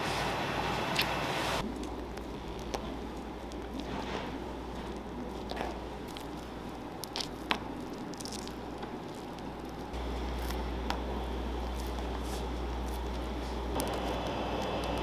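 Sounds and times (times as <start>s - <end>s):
low steady hum: 0.0s - 15.0s
cream squishing from piping bag: 1.0s - 15.0s.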